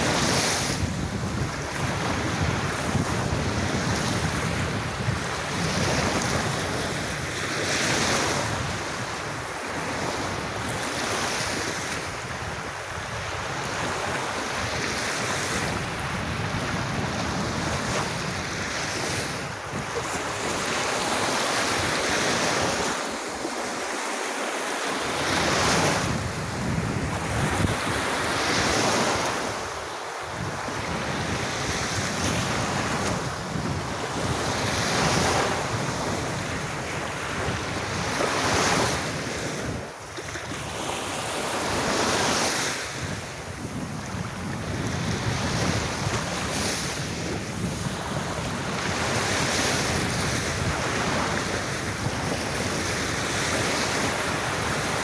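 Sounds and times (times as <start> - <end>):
wind buffeting microphone: 0.0 - 24.0, 25.0 - 55.0
sea waves washing onto beach: 0.0 - 55.0.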